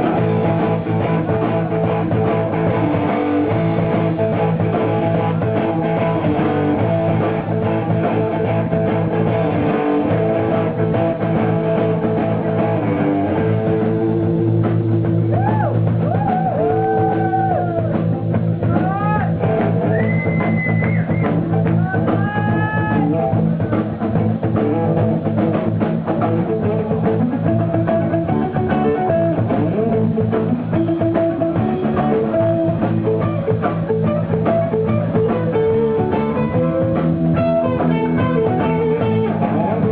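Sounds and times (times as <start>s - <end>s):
rock band playing: 0.0s - 39.9s
sliding lead guitar line: 0.0s - 39.9s.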